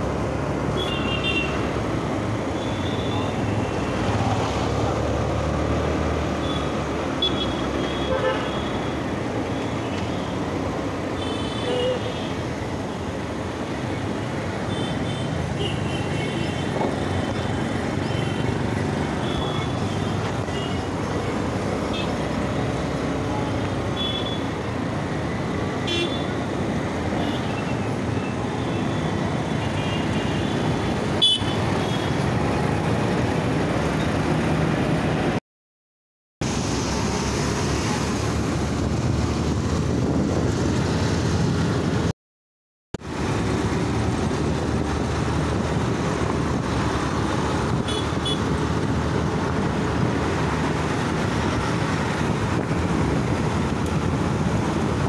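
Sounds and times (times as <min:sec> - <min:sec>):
road traffic noise: 0:00.0 - 0:35.4, 0:36.4 - 0:42.2, 0:42.9 - 0:55.0.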